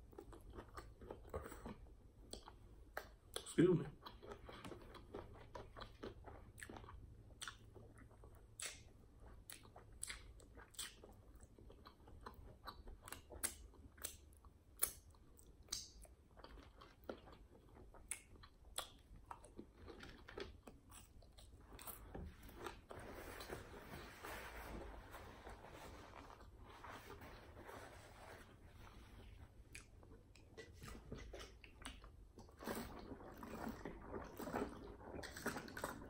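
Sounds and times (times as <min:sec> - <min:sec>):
food crunching: 0:00.0 - 0:23.0, 0:28.8 - 0:36.0
wet chewing smacks: 0:00.1 - 0:22.8, 0:29.6 - 0:36.0.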